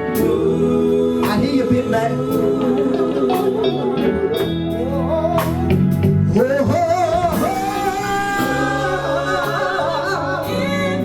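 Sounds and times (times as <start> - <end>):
person singing with vibrato: 0.0 - 5.7, 6.3 - 11.0
gospel band playing: 0.0 - 11.0.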